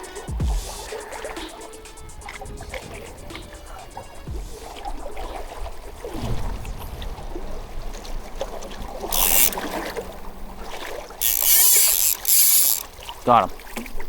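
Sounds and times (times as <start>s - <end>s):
river water flowing and splashing: 0.9s - 14.0s.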